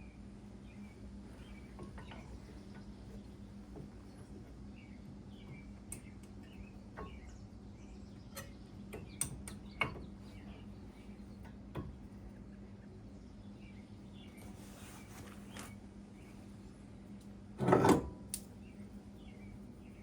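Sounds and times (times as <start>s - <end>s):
birds chirping: 0.0s - 17.2s, 18.5s - 20.0s
steady low hum: 0.0s - 20.0s.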